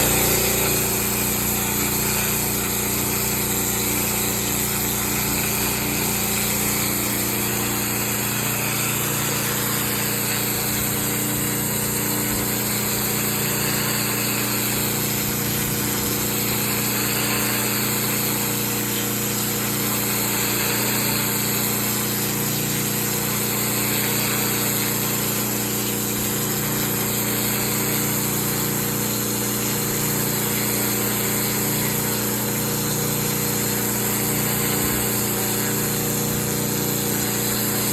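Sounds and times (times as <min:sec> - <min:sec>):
high-pressure water jet hissing: 0:00.0 - 0:37.9
pressure washer motor humming: 0:00.0 - 0:37.9.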